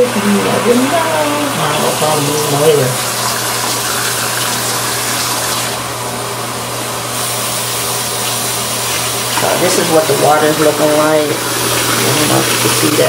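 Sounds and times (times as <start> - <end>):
tap water running: 0.0 - 6.0, 6.7 - 13.0.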